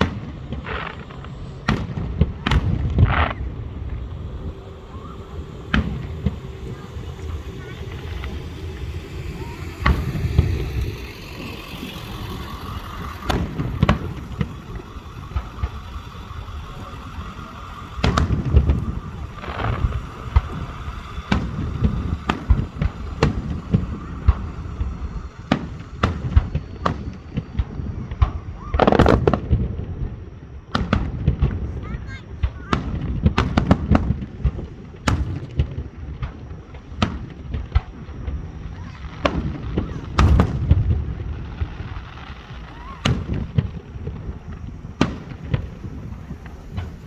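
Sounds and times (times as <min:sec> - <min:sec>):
fireworks bangs and booms: 0:00.0 - 0:47.0
fireworks crackling burst: 0:00.0 - 0:47.0.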